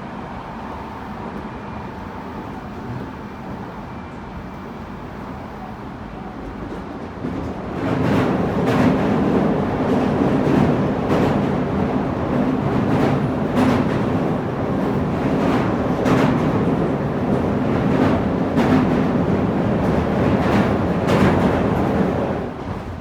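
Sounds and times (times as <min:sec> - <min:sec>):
electric train rumble and hum: 0:00.0 - 0:23.0.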